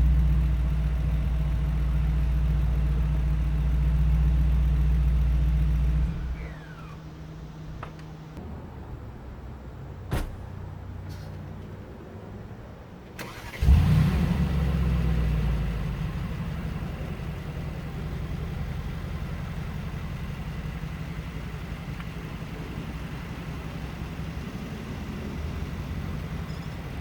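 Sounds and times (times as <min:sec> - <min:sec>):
car engine starting and idling: 0:00.0 - 0:08.6, 0:13.0 - 0:27.0.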